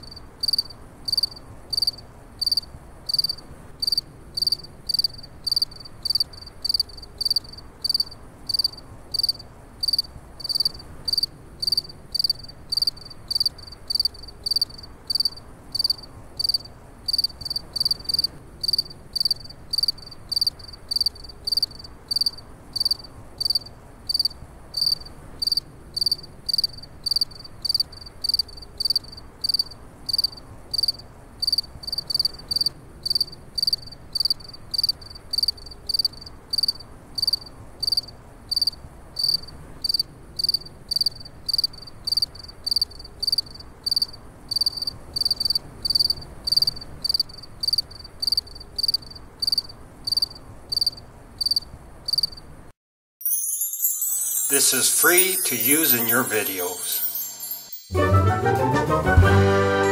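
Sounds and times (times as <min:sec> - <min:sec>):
crickets chirping: 0:00.0 - 0:52.6, 0:53.3 - 0:54.6, 0:55.2 - 0:57.9
faint low hiss: 0:00.0 - 0:52.7.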